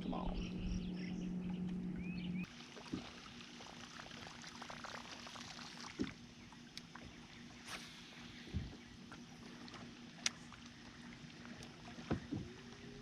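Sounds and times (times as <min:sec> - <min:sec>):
steady low hum: 0:00.0 - 0:13.0
water lapping against a boat: 0:00.0 - 0:13.0.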